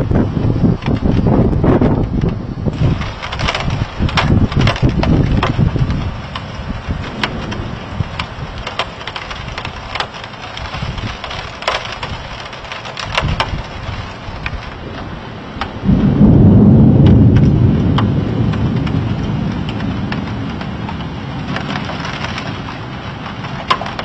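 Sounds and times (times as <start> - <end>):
low thunder rumble: 0.0 - 23.7
rain hiss: 0.0 - 24.0
sharp ticks and cracks: 0.7 - 15.9, 17.0 - 24.0.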